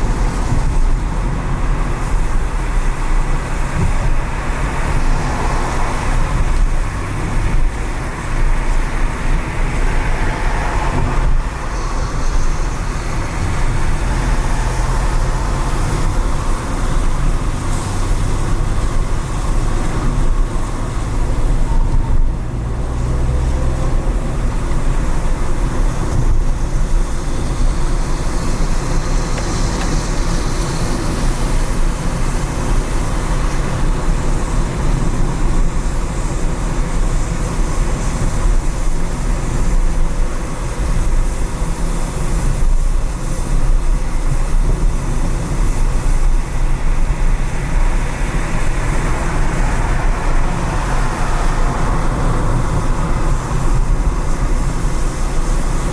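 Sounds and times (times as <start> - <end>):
car engine and road rumble: 0.0 - 55.9
other traffic: 0.0 - 55.9
tyre noise on wet road: 0.0 - 55.9.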